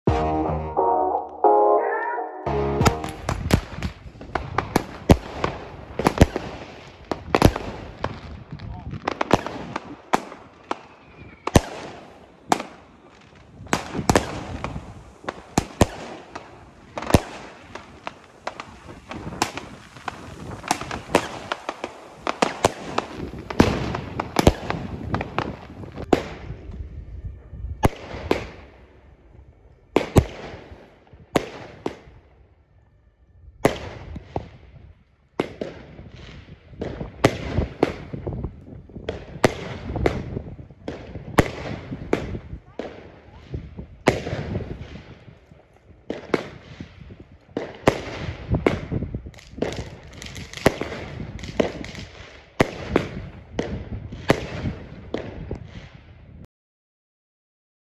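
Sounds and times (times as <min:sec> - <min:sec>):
fireworks banging and crackling: 0:02.7 - 0:27.0, 0:27.8 - 0:29.0, 0:29.9 - 0:32.4, 0:33.6 - 0:56.2.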